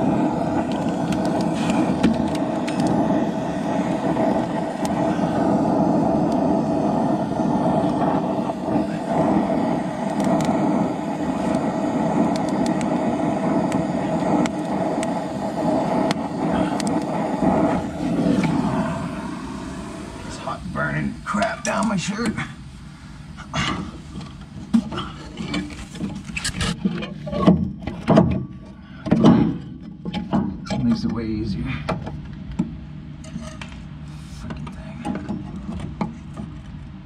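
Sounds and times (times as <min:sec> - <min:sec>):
torch flame burning: 0:00.0 - 0:37.0.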